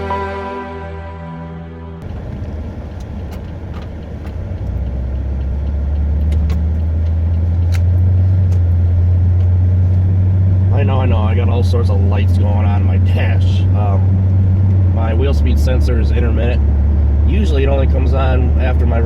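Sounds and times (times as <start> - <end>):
car engine drone: 0.0 - 19.0
road noise inside car: 2.0 - 19.0.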